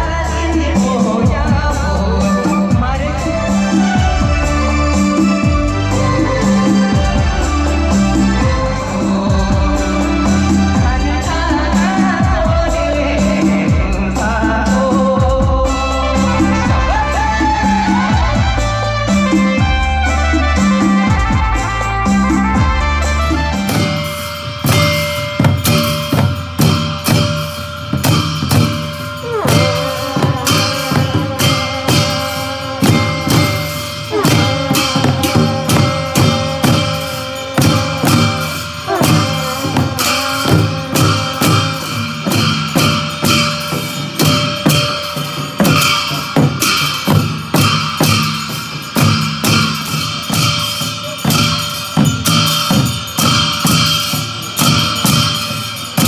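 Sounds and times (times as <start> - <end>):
drums beating fast rhythm: 0.0 - 56.0.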